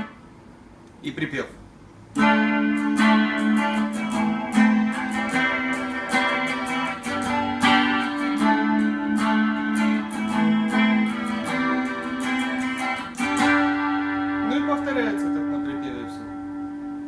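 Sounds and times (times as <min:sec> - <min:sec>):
guitar plucking a tune: 0:02.1 - 0:17.0
held bass note ringing: 0:02.2 - 0:17.0.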